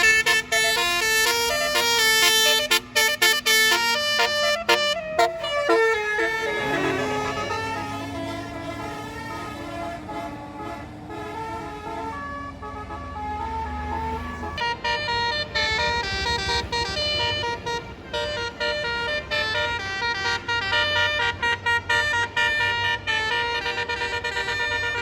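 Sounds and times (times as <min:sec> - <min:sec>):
low engine rumble: 0:00.0 - 0:25.0
musical air horn melody: 0:00.0 - 0:25.0.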